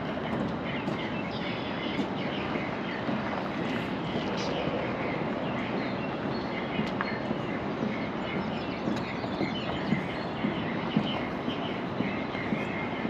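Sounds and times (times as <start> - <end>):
footsteps on bridge deck: 0.0 - 13.0
small birds chirping: 0.0 - 13.0
steady outdoor rumble: 0.0 - 13.0.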